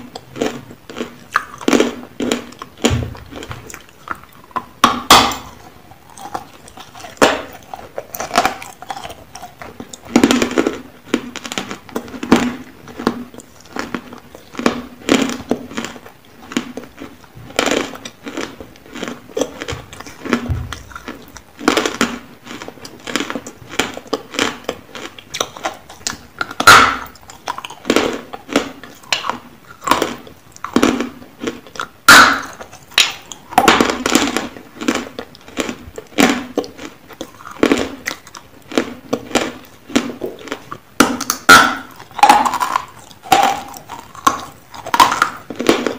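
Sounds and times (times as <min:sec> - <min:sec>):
chewing crunchy clay: 0:00.0 - 0:45.9.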